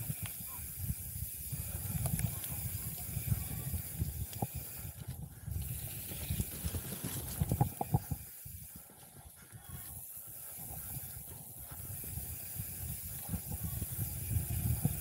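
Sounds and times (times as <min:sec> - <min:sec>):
bike rattling: 0:00.0 - 0:15.0
wind buffeting microphone: 0:00.0 - 0:15.0.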